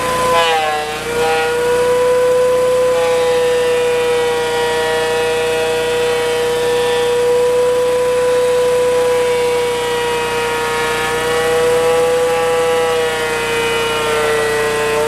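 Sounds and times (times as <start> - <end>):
wood planer whining: 0.0 - 15.0.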